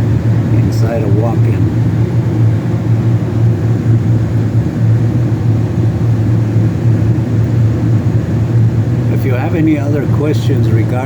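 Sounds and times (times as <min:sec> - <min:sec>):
fans humming with rushing air: 0:00.0 - 0:11.0.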